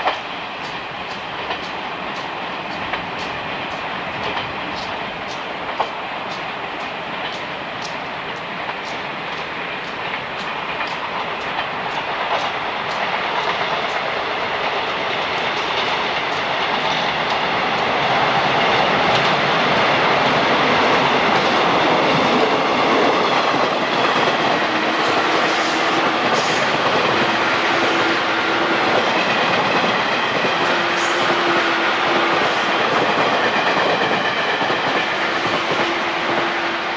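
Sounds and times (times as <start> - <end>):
train wheels clicking on rails: 0.0 - 36.9.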